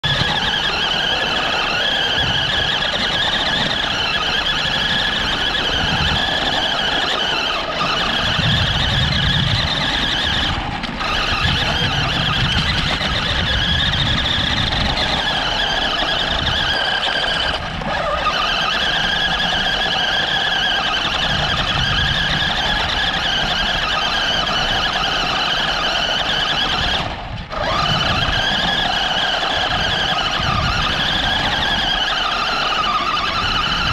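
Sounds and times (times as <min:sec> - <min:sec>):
rc car motor whining: 0:00.0 - 0:33.9.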